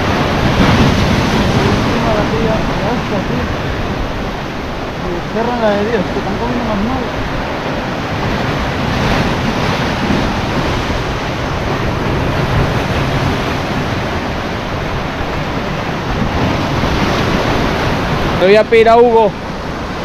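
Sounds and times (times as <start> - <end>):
sea surf washing over rocks: 0.0 - 20.0
wind buffeting microphone: 0.0 - 20.0.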